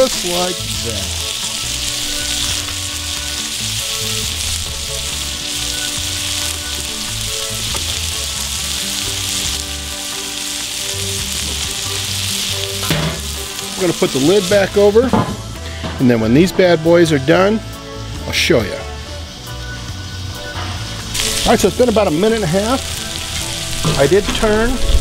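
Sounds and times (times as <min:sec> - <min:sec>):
faint background music: 0:00.0 - 0:25.0
fat sizzling on a griddle: 0:00.0 - 0:25.0.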